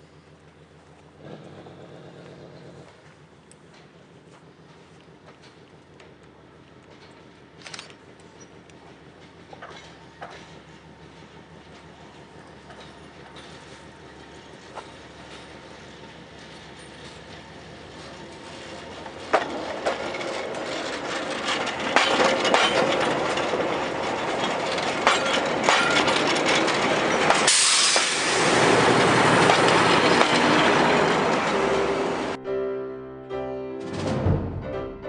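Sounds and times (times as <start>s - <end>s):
diesel locomotive rushing past: 0.0s - 32.4s, 33.8s - 35.0s
train wheels clicking over rail joints: 0.0s - 32.4s.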